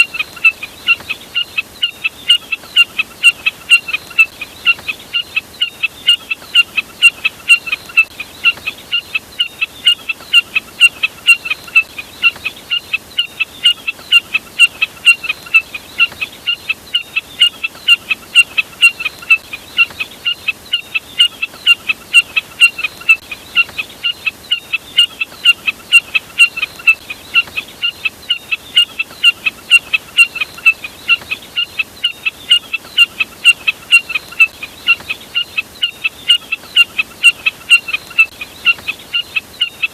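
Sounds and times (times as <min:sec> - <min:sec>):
bird calls played back: 0:00.0 - 0:39.9.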